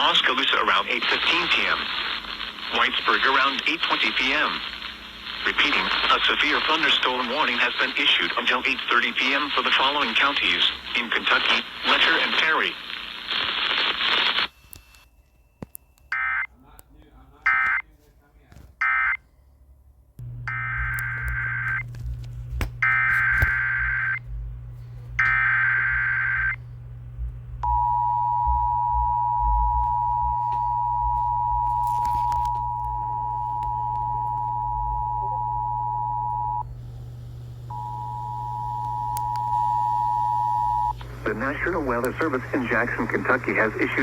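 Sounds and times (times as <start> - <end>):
steady low hum: 0.0 - 13.7, 19.4 - 44.0.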